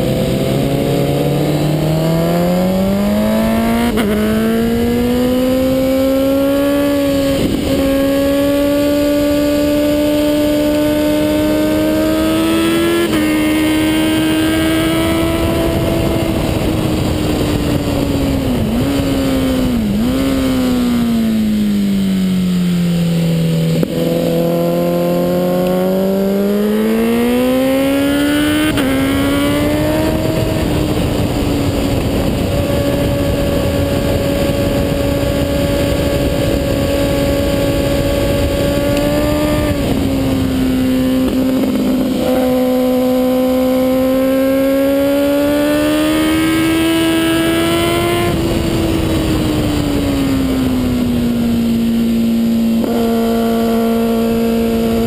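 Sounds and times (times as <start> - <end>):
motorcycle engine at high revs: 0.0 - 55.0
wind rushing on camera: 0.0 - 55.0.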